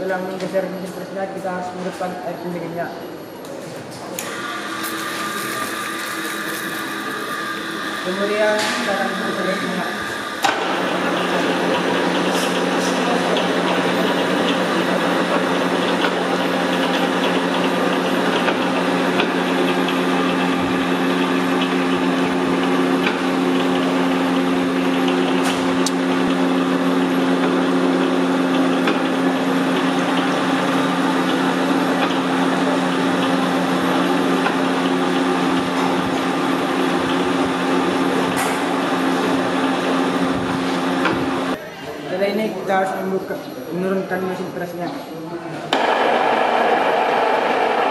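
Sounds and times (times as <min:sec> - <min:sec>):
metal cutting noise: 0:04.2 - 0:41.6, 0:45.7 - 0:47.9
milling machine motor hum: 0:04.2 - 0:41.6, 0:45.7 - 0:47.9.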